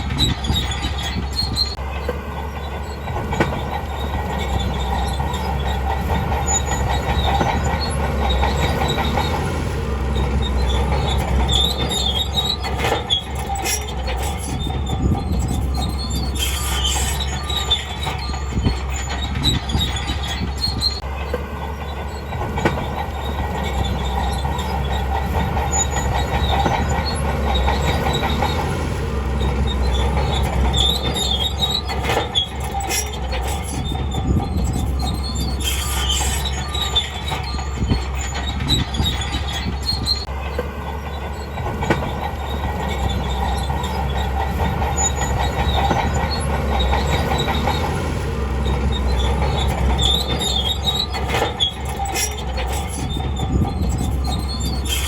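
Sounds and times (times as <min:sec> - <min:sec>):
diesel engine rumble: 0:00.0 - 0:55.0
steel tracks squealing and clanking: 0:00.0 - 0:55.0.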